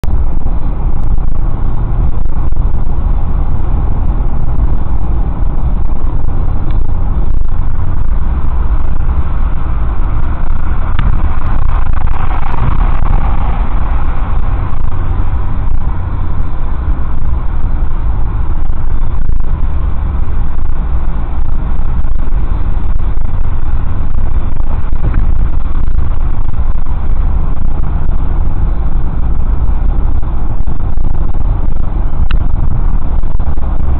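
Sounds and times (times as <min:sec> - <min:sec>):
car road noise rumble: 0:00.0 - 0:33.9.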